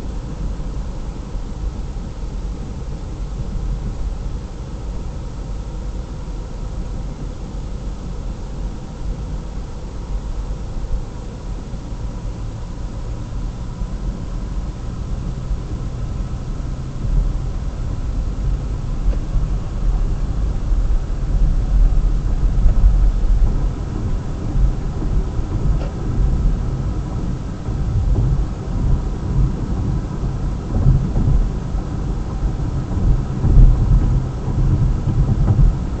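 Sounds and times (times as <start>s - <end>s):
uneven low rumble: 0.0s - 36.0s.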